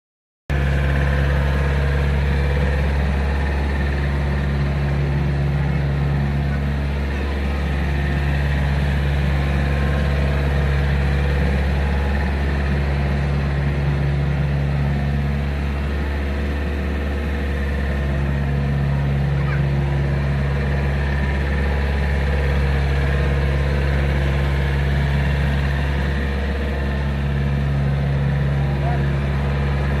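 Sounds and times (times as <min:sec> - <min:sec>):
mini excavator diesel engine running: 0:00.5 - 0:30.0.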